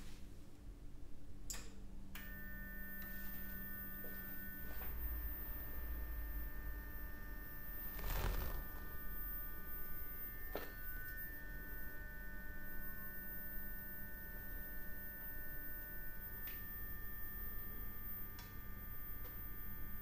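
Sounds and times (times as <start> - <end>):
furnace electrical hum: 0.0 - 20.0
high whining tones: 2.2 - 20.0.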